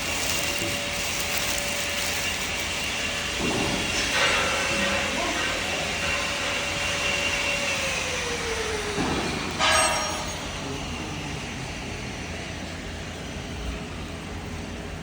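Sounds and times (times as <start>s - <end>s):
grinding machine running: 0.0s - 15.0s.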